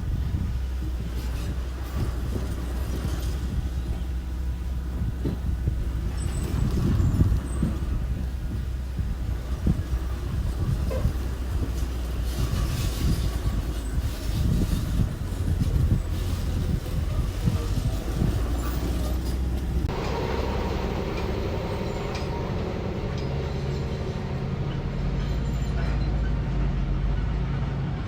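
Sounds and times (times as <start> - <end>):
heavy machinery engine rumbling: 0.0 - 28.0.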